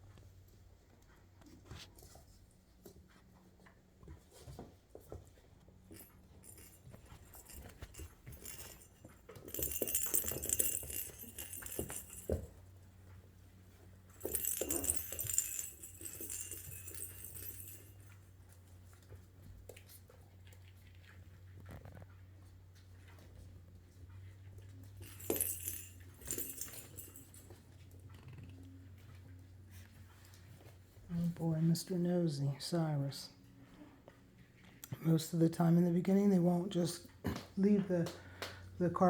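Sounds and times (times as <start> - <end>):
puppies clicking and scuffling: 0.0 - 31.9.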